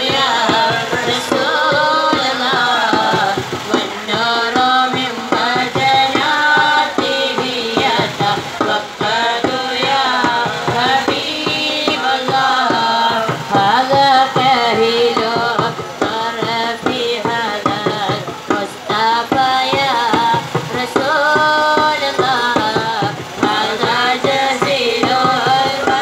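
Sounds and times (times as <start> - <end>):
hand drum beat: 0.0 - 26.0
person singing devotional song: 0.0 - 26.0.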